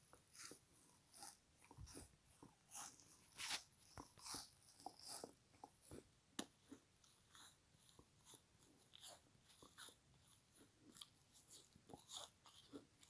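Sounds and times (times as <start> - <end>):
chewing with soft crunches: 0.0 - 13.0.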